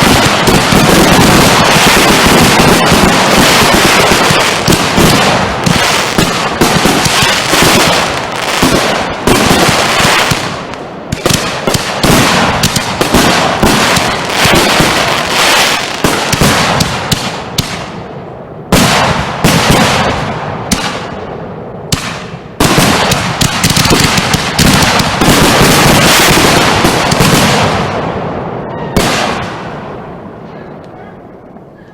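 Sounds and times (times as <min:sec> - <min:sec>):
fireworks cracks and bangs: 0:00.0 - 0:18.1, 0:18.7 - 0:21.2, 0:21.9 - 0:30.3.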